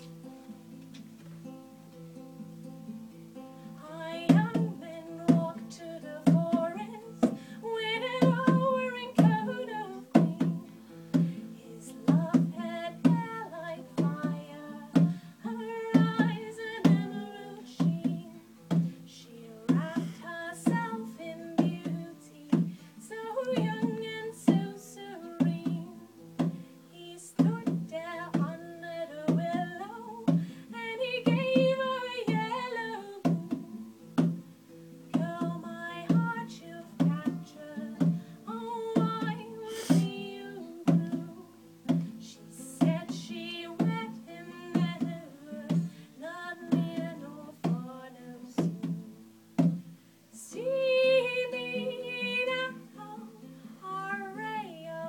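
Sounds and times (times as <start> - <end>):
strummed acoustic guitar: 0.0 - 55.0
woman singing: 3.6 - 34.4, 35.1 - 49.7, 50.3 - 55.0.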